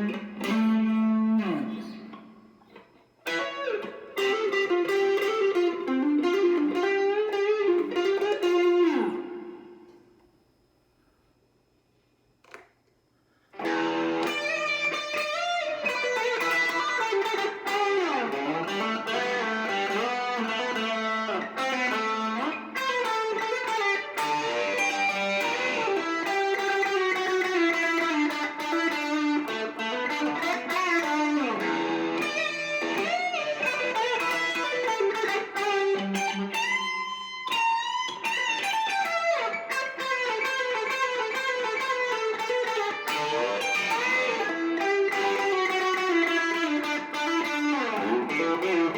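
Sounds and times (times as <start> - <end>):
electric guitar rock lead: 0.0 - 10.0, 13.5 - 48.9.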